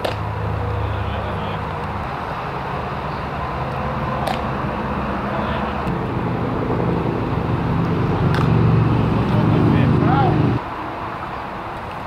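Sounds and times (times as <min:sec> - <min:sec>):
low outdoor ambient rumble: 0:00.0 - 0:11.8.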